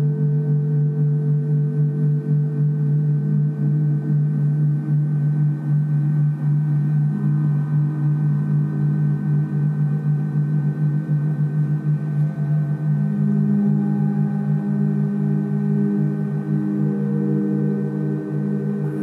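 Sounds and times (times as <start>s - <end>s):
gongs droning: 0.0s - 19.0s.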